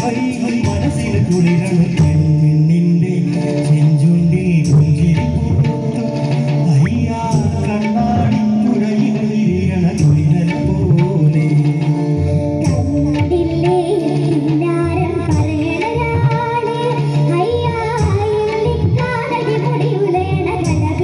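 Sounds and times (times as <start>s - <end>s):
instrumental backing with steady beat: 0.0s - 21.0s.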